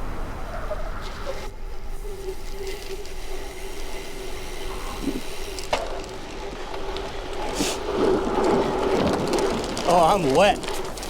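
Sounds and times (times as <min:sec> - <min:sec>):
wind and tyre noise: 0:00.0 - 0:11.0.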